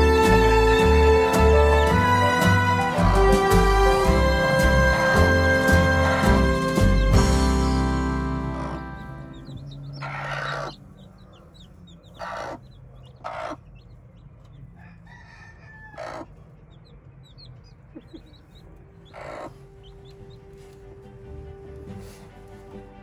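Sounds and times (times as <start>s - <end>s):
chicks peeping: 0.0s - 21.2s
hen clucking: 0.0s - 22.2s.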